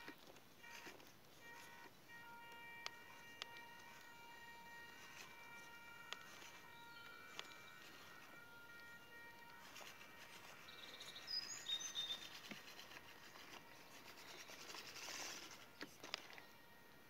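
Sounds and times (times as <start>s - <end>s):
birds chirping: 0.0s - 17.0s
faint outdoor background noise: 0.0s - 17.0s.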